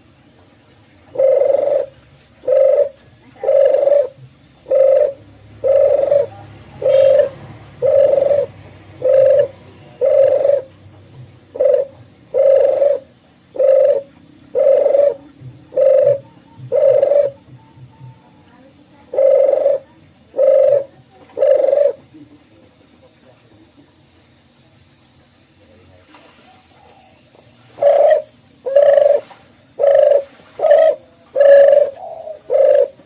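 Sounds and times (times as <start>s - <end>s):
dove cooing: 1.1s - 22.1s, 26.5s - 33.0s.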